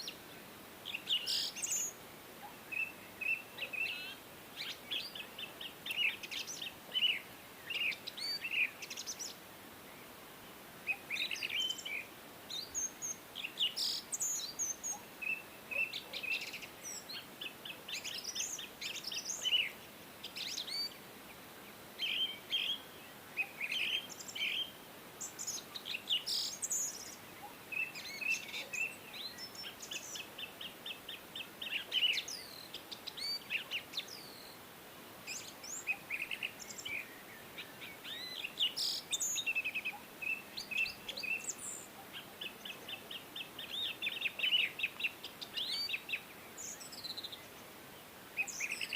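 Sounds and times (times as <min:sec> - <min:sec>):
faint steady hiss: 0:00.0 - 0:48.9
songbirds chirping: 0:00.0 - 0:48.9.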